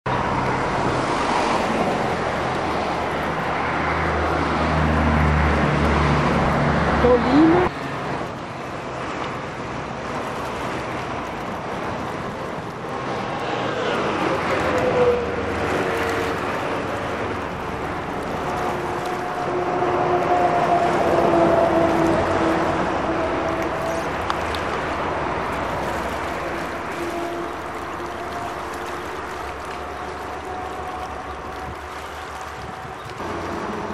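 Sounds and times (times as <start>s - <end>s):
steady rushing noise: 0.1s - 33.9s
steady traffic wash: 0.1s - 33.9s
vehicle engine drone: 0.1s - 33.9s.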